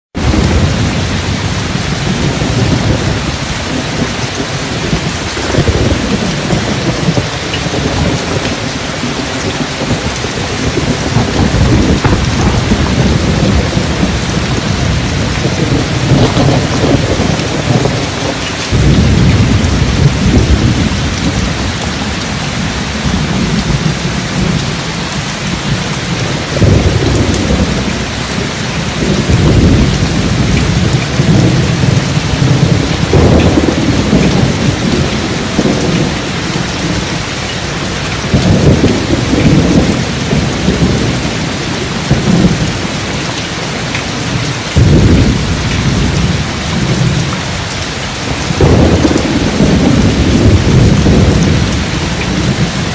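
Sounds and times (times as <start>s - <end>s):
heavy rain: 0.1s - 52.9s
thunder rolling: 0.2s - 52.9s.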